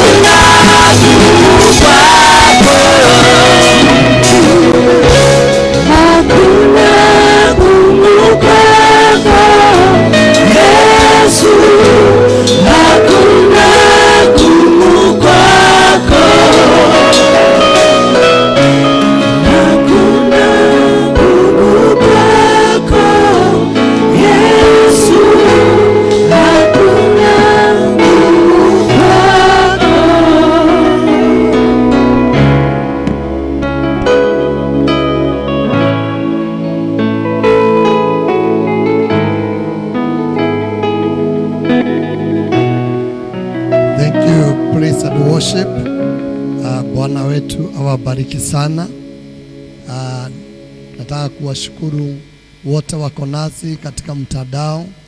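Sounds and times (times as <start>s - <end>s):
live band with bass and drums: 0.0s - 47.6s
group singing gospel song: 0.0s - 54.6s.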